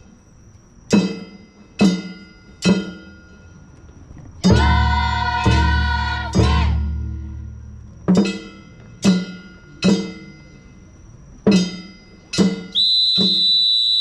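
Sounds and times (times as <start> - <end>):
ringing percussion beats: 0.8 - 13.6.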